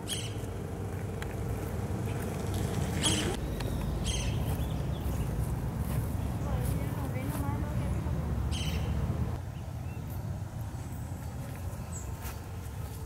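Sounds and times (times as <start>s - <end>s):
faint hum: 0.0s - 13.0s
low steady rumble: 0.0s - 13.0s.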